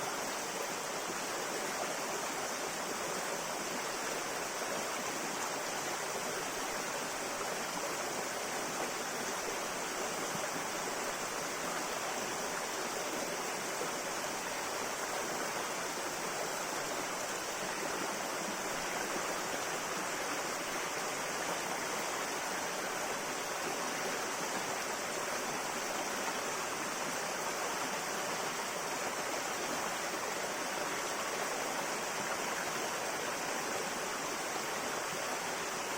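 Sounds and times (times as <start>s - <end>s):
river water flowing: 0.0s - 35.9s.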